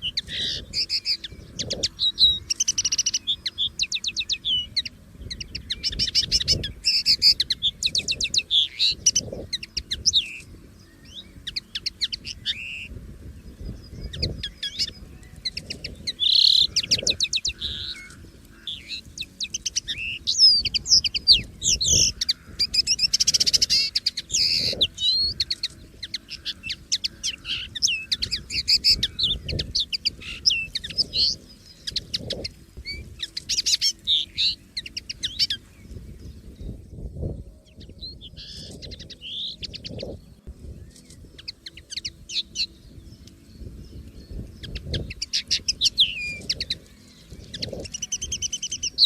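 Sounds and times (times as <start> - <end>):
bird twittering and trilling: 0.0 - 49.0.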